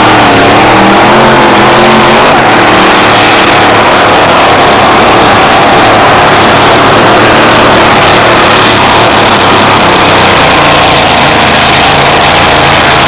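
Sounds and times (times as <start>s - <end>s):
truck engine at full throttle: 0.0s - 13.0s.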